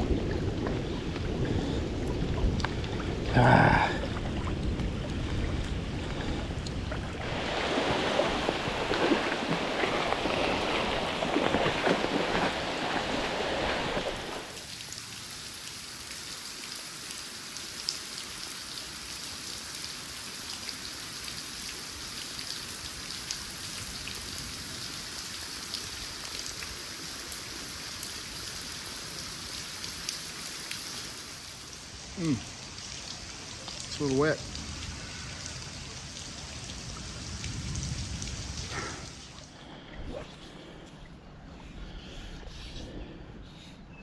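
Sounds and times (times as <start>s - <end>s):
steady rain falling: 0.0s - 39.5s.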